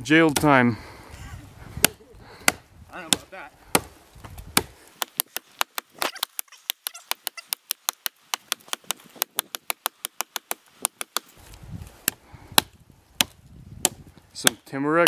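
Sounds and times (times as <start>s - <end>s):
axe chopping into log: 0.4s - 0.6s, 1.8s - 11.3s, 12.0s - 14.7s.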